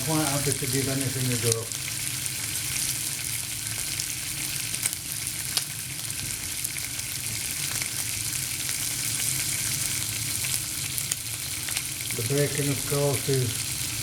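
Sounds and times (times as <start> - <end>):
bacon sizzling: 0.0 - 14.0.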